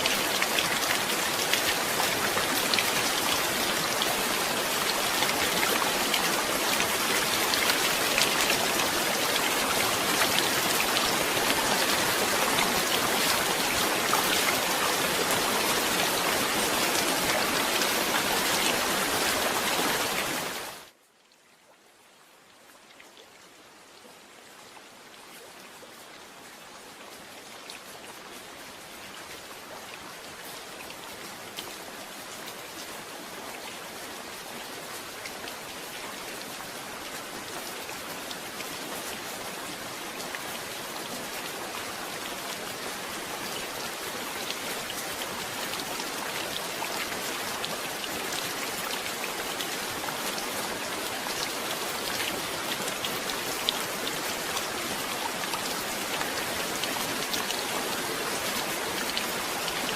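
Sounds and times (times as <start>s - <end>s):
heavy rain falling: 0.0s - 21.0s, 27.8s - 59.9s.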